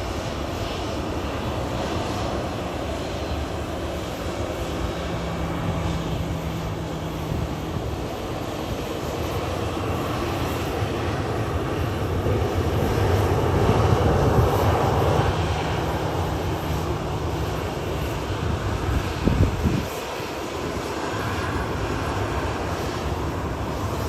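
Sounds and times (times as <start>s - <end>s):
jet plane passing: 0.0s - 24.0s.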